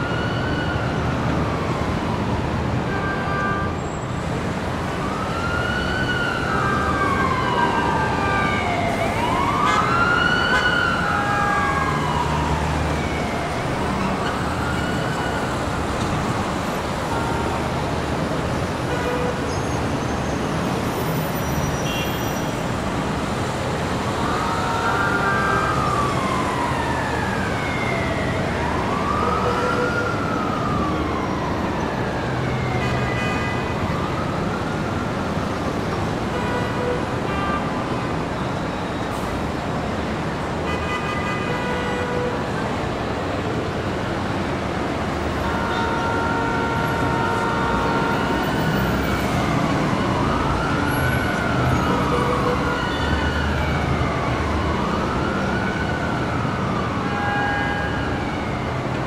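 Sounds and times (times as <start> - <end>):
emergency siren wailing: 0.0 - 59.0
street traffic noise: 0.0 - 59.0.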